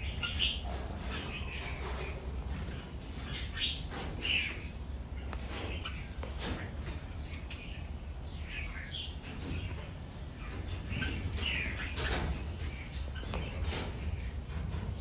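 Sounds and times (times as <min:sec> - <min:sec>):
bird chirps and calls: 0:00.0 - 0:06.3, 0:07.1 - 0:14.5.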